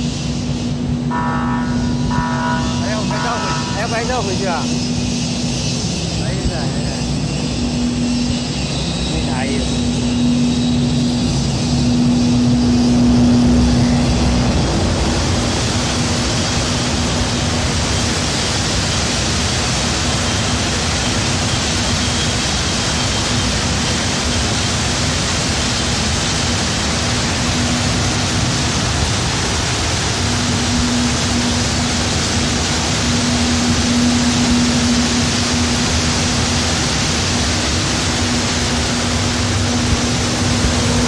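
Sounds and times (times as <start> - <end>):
low steady hum: 0.0 - 20.0, 25.0 - 41.0
air blowers rushing: 0.0 - 41.0.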